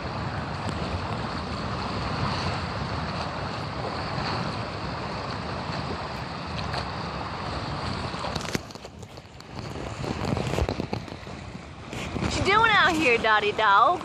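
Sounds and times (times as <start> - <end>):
small waves splashing: 0.0 - 14.0
wind buffeting microphone: 0.0 - 14.0.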